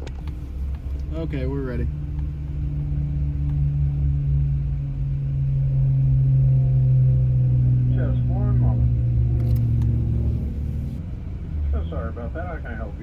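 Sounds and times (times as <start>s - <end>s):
car engine idling: 0.0s - 6.2s, 7.2s - 13.0s.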